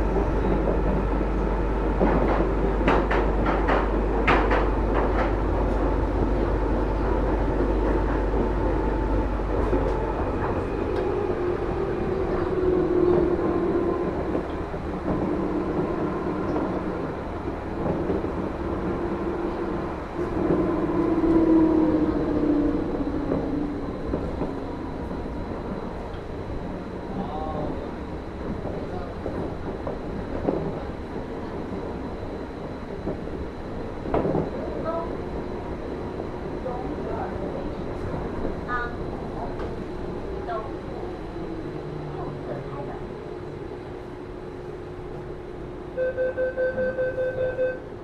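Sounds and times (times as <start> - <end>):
metro train running: 0.0 - 48.0.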